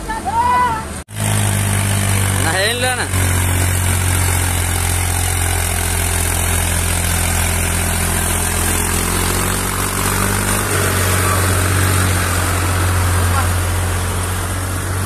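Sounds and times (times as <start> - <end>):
tractor diesel engine droning: 0.8 - 15.0.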